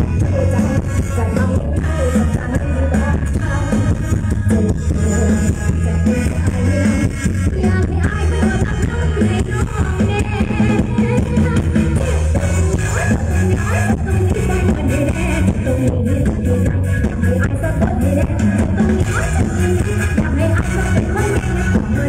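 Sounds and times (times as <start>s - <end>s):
live band with singing: 0.0s - 22.0s.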